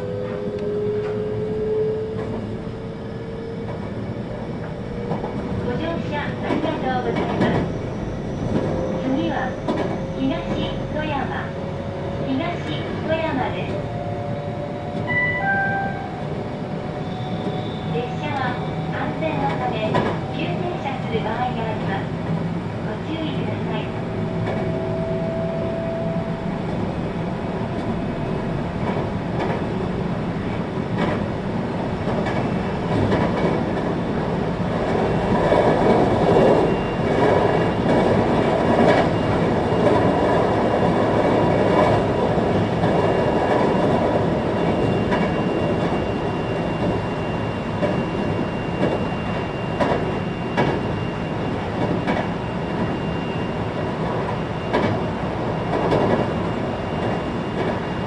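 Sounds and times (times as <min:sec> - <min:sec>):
train wheels rumbling on rail: 0:00.0 - 0:15.2, 0:16.2 - 0:58.0.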